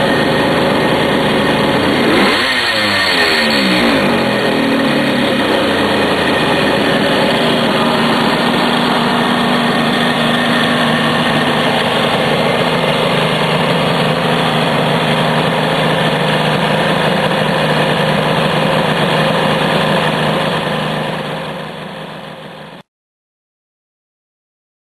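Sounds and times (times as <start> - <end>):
motorcycle engine idling: 0.0 - 22.8.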